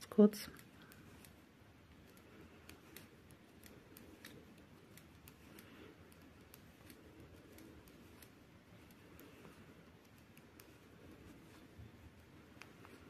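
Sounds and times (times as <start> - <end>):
knitting needles clicking: 0.0 - 13.0.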